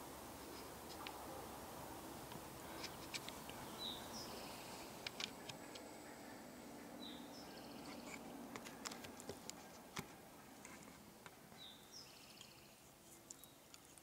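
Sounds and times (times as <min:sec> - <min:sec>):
distant bird singing: 0:02.1 - 0:13.8.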